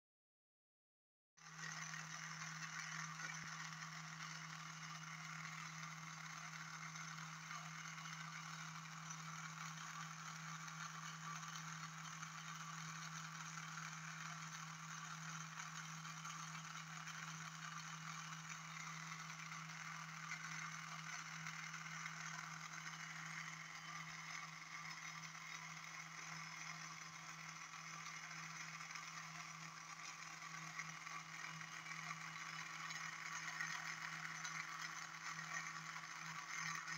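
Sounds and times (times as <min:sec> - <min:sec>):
motor humming with rattly hiss: 0:01.4 - 0:36.9.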